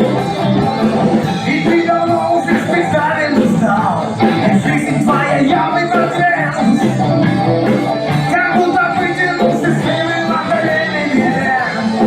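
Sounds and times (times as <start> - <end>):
band playing: 0.0 - 12.0
person singing: 0.0 - 12.0.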